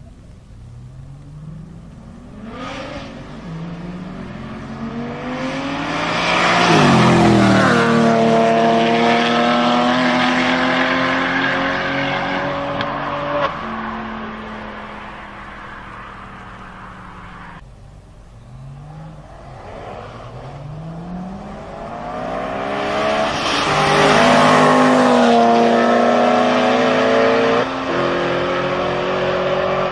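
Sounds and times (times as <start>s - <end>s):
car engine accelerating past: 0.7s - 17.6s, 18.4s - 29.9s.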